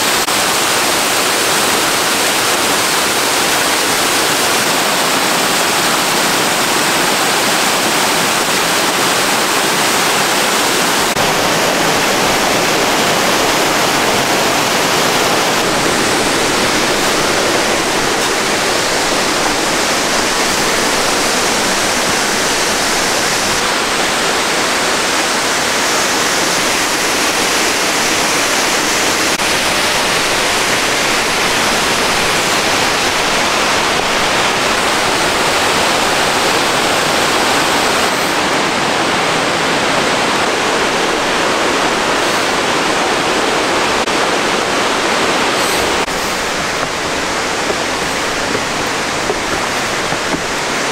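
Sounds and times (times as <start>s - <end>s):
stream rushing over boulders: 0.0s - 50.9s.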